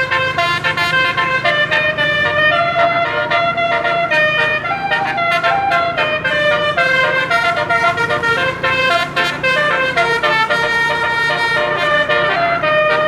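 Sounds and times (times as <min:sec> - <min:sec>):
bus air horn playing a fast tune: 0:00.0 - 0:13.0.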